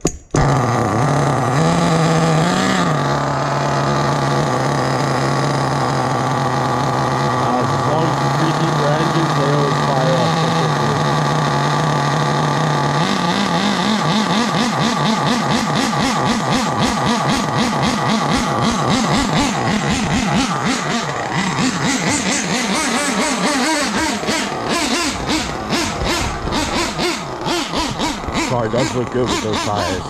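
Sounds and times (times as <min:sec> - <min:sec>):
rc car nitro engine revving: 0:00.3 - 0:30.0.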